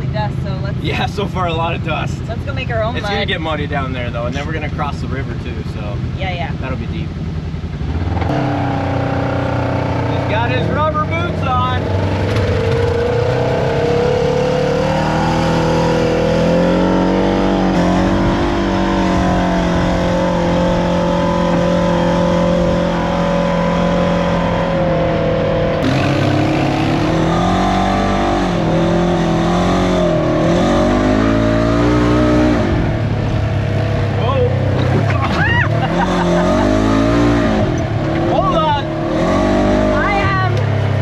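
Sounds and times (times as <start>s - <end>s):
off-road vehicle engine running: 0.0s - 41.0s.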